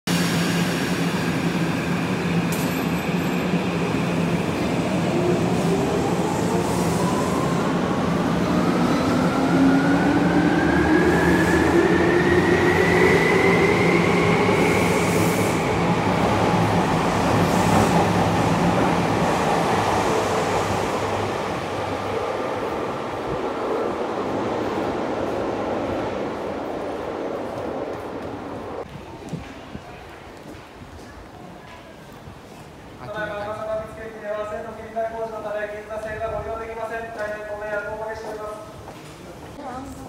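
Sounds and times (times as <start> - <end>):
subway train rumbling: 0.1 - 40.0.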